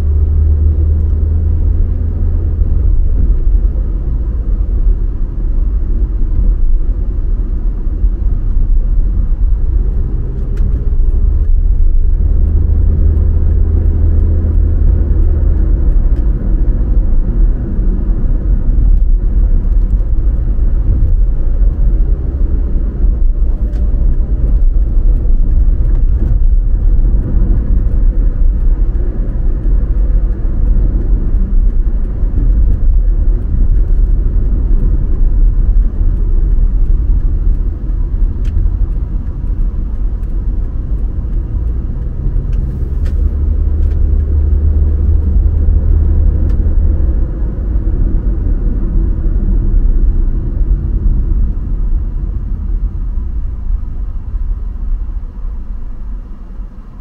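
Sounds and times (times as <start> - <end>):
car engine and road noise: 0.0 - 57.0
deep hum: 0.0 - 57.0.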